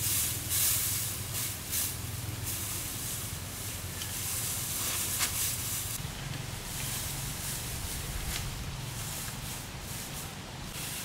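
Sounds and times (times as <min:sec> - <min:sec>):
dry straw rustling and crackling: 0:00.0 - 0:11.0.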